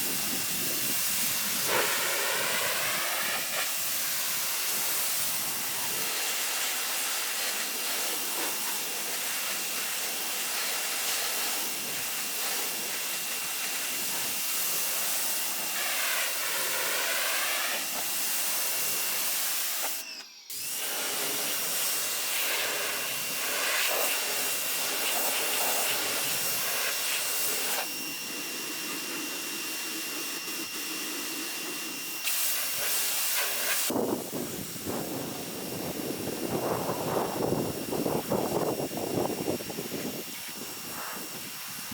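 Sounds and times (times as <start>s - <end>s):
pressure washer spraying: 0.0s - 41.9s.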